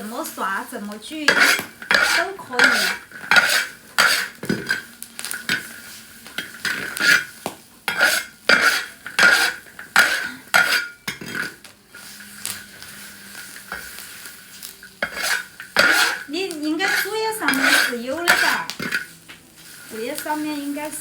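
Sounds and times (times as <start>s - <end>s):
metal spatula scraping a pan: 0.0s - 21.0s.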